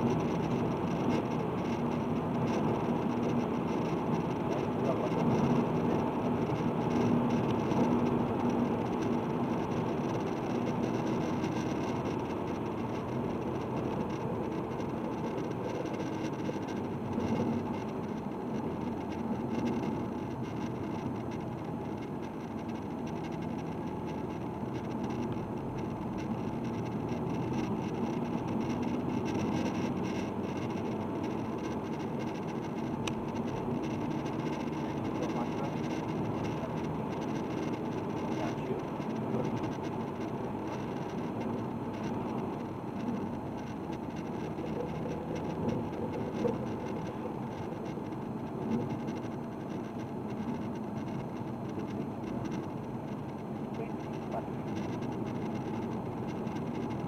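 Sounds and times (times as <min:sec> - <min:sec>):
car engine hum: 0:00.0 - 0:57.0
road noise: 0:00.0 - 0:57.0.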